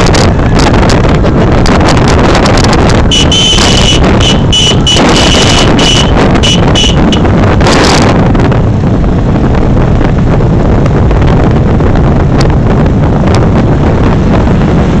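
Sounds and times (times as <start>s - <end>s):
motorcycle engine: 0.0s - 15.0s
road noise: 0.0s - 15.0s
wind buffeting microphone: 0.0s - 15.0s.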